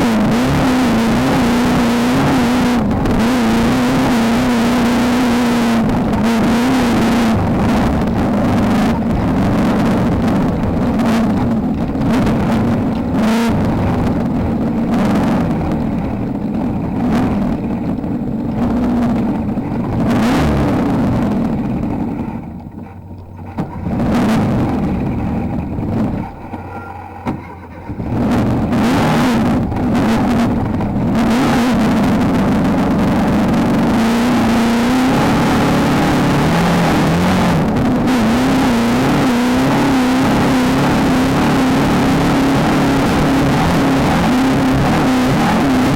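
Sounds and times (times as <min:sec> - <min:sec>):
race car engine running hard: 0:00.0 - 0:45.9.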